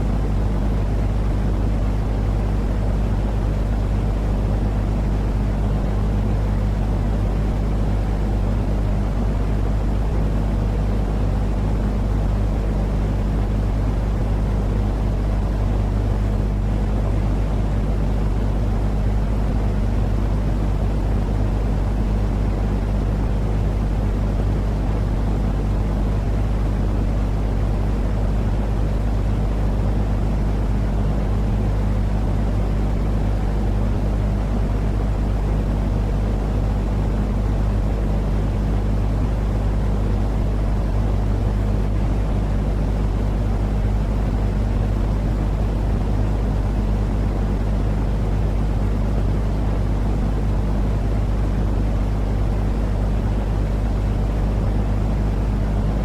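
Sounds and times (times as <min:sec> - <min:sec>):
constant low hum: 0:00.0 - 0:56.0.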